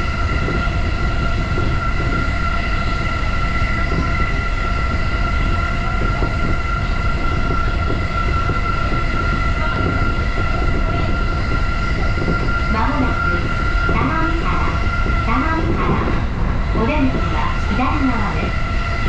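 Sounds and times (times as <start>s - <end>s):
train high whine: 0.0s - 19.0s
train wheels rumbling on track: 0.0s - 19.0s.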